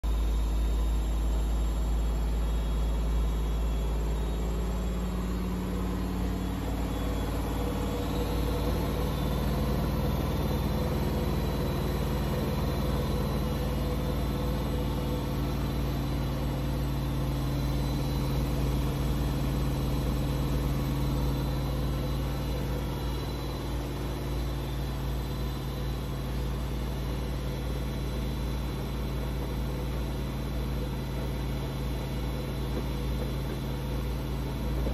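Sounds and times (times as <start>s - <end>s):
washing machine motor hum: 0.0s - 34.9s.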